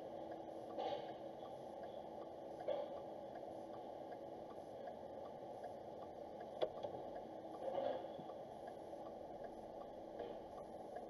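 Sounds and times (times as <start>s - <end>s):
light regular ticking: 0.3s - 7.6s, 8.2s - 11.0s.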